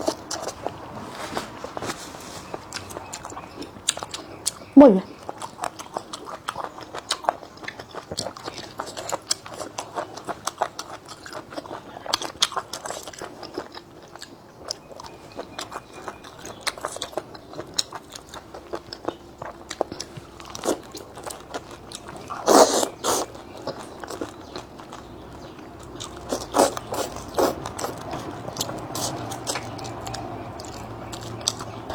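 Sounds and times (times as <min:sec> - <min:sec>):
person chewing and crunching: 0:00.0 - 0:31.9.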